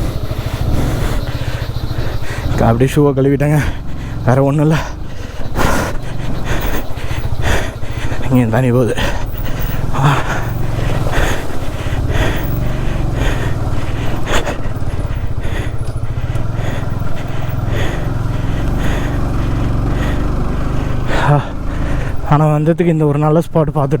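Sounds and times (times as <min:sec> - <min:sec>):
motorcycle engine running at low revs: 0:00.0 - 0:24.0.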